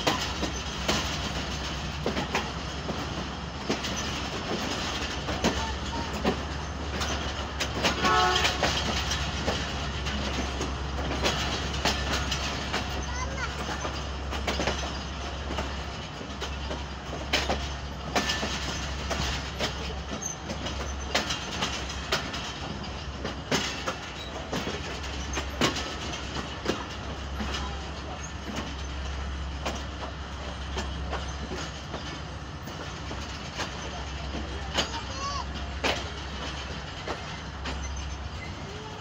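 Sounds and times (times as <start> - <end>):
train coach rolling over rails: 0.0 - 39.0
wheels clacking on rail joints: 0.0 - 39.0.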